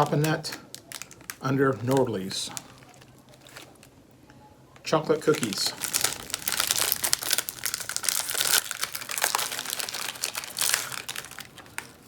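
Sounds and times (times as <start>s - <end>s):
snack wrapper crinkling and tearing: 0.0s - 4.0s, 5.0s - 12.0s.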